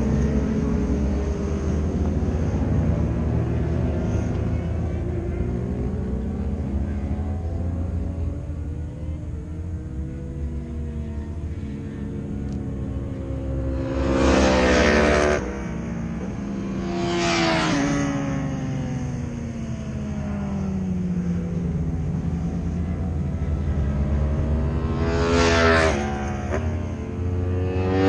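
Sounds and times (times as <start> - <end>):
racing motorcycles passing: 0.0 - 28.0.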